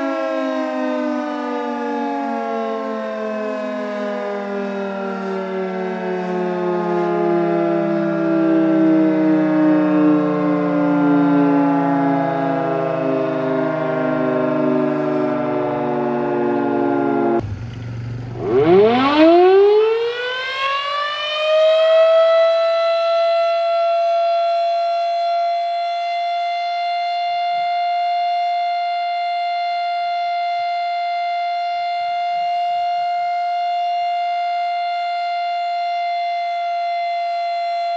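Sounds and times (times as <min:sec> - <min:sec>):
outdoor warning siren: 0:00.0 - 0:37.9.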